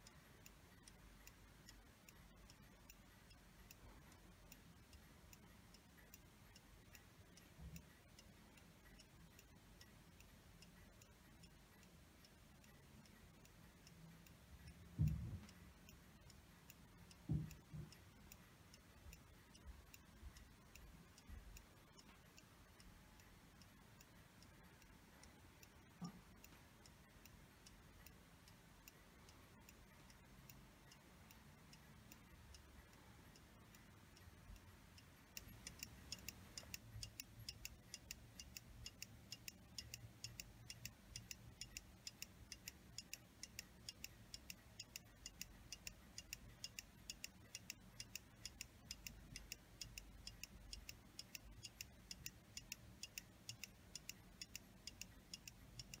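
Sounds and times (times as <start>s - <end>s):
mantel clock ticking: 0.0s - 56.0s.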